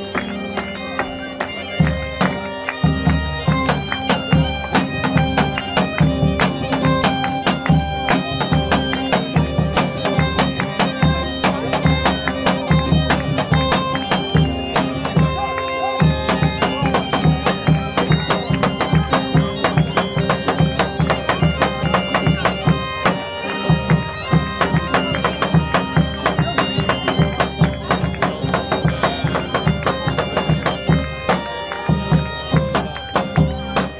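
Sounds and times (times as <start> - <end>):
bagpipes playing: 0.0 - 33.9
drum beat: 1.8 - 33.9.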